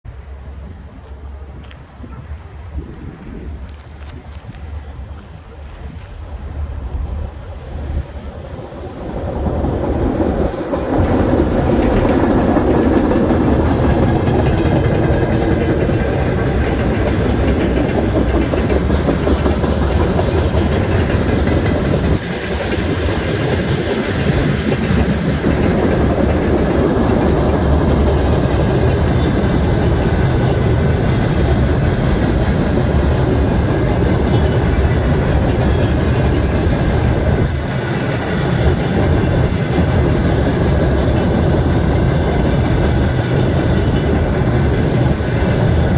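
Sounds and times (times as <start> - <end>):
freight train rumbling: 0.0 - 45.9
wheels clattering over rail joints: 3.6 - 45.9.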